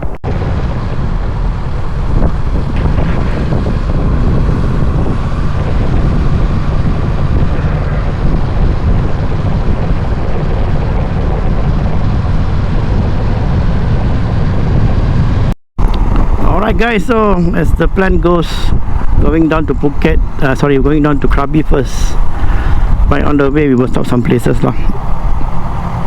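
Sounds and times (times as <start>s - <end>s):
motorcycle engine rumble: 0.0s - 26.0s
wind buffeting microphone: 0.0s - 26.0s.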